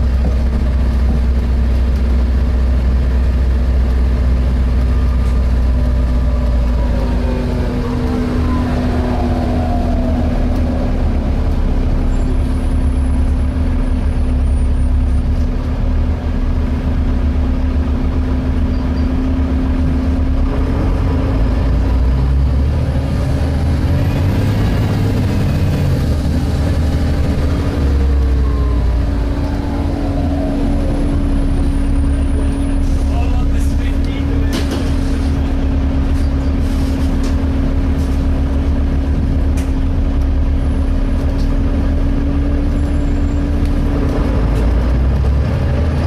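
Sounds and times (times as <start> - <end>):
bus engine rumbling: 0.0 - 46.0
bus whine: 0.0 - 46.0.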